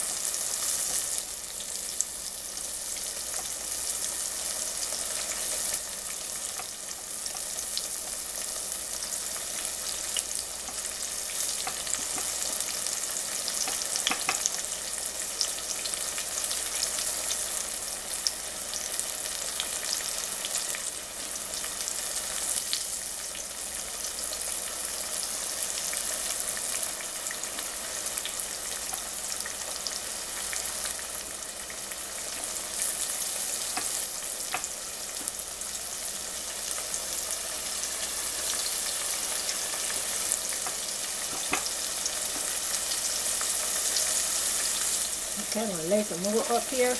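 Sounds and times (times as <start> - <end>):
crackles and pops of frying: 0.0 - 46.9
squash deep-frying in hot grease: 0.0 - 46.9.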